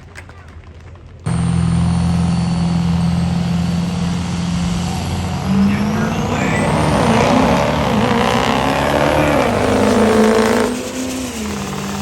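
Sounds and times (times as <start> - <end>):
diesel truck engine running hard: 1.2 - 12.0.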